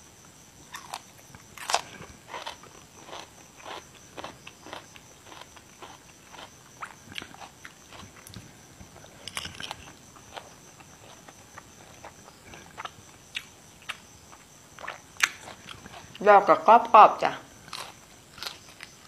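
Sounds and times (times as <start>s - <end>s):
chewing crisp raw vegetables: 0.7s - 16.2s, 17.6s - 19.0s.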